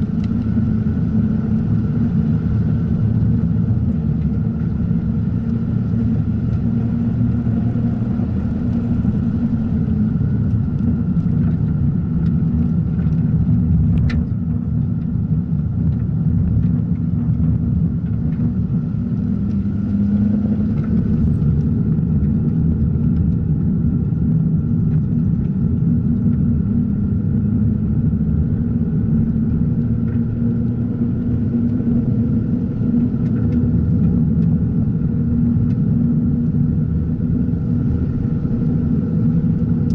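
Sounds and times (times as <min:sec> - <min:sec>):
rotary engine running hard: 0:00.0 - 0:39.9.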